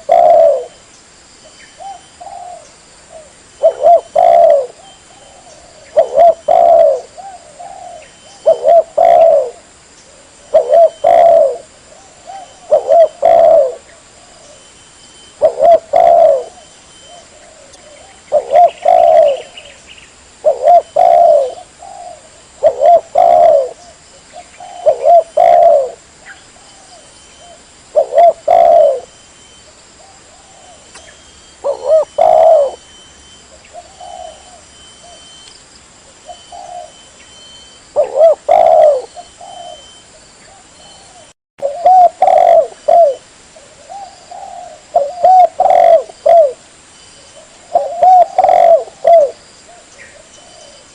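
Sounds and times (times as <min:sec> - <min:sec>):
dove cooing: 0:00.0 - 0:00.8, 0:01.8 - 0:19.8, 0:20.4 - 0:29.2, 0:30.0 - 0:35.4, 0:36.2 - 0:46.6, 0:47.2 - 0:50.9.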